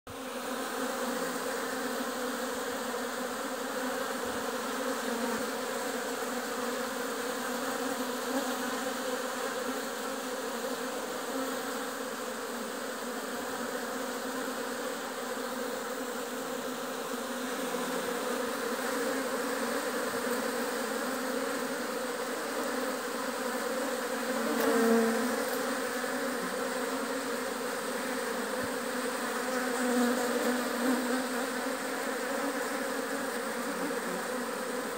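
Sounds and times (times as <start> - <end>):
honeybees buzzing: 0.1 - 34.9.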